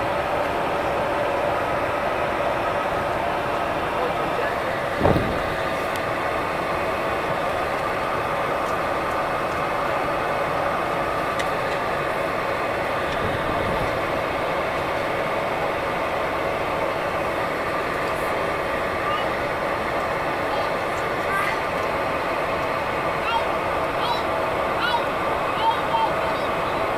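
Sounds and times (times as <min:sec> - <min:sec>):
turboprop engine and propeller hum: 0:00.0 - 0:26.9.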